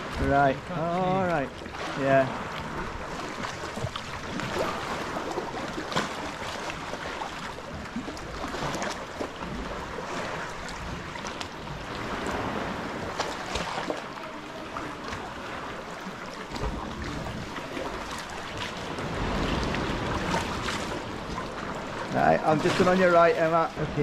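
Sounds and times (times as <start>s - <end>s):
paddle splashing in water: 0.0s - 24.0s
water sloshing against rock: 0.0s - 24.0s.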